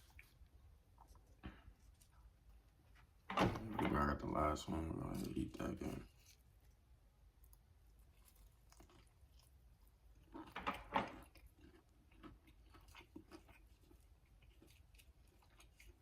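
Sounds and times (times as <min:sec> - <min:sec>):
chewing and biting food: 0:00.0 - 0:03.7, 0:04.8 - 0:16.0.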